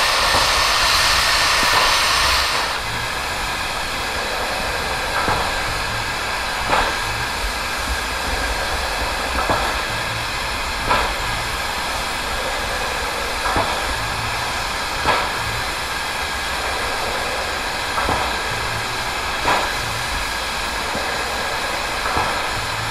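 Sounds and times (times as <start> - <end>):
locomotive steam beats: 0.0 - 22.9
steam locomotive hissing: 0.0 - 22.9.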